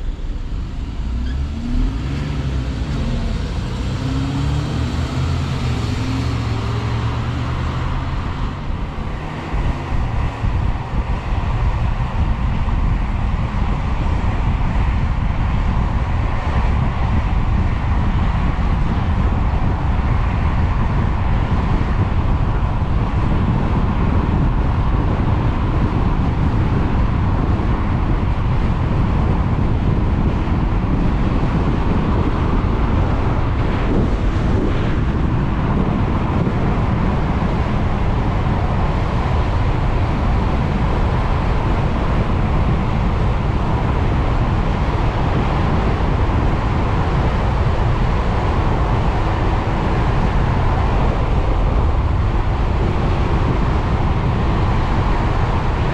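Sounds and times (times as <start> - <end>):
tyre and road noise: 0.0 - 55.9
wind buffeting microphone: 0.0 - 55.9.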